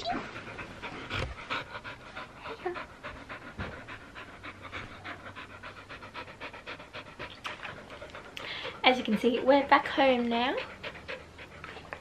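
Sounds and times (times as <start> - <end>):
dog panting: 0.1 - 12.0.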